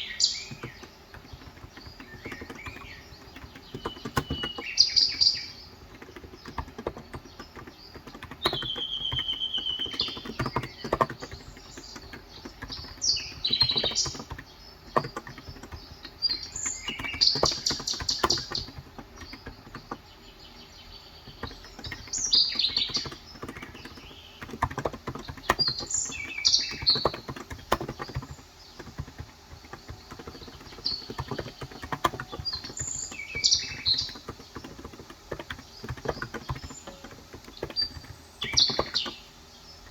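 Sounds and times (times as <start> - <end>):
typing on a keyboard: 0.0 - 20.2, 21.0 - 39.9
birds chirping: 0.0 - 39.9.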